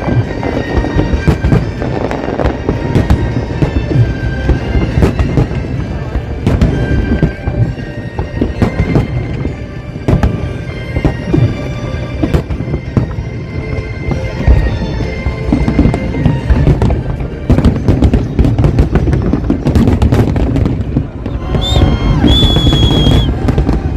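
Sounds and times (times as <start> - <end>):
continuous rumble: 0.0 - 23.9
fireworks bangs: 0.0 - 23.9
music playing: 0.0 - 23.9.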